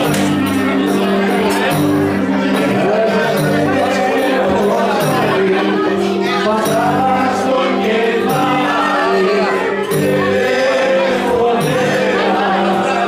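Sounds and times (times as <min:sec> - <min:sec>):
folk music played loud: 0:00.0 - 0:13.0
voices singing together: 0:00.0 - 0:13.0.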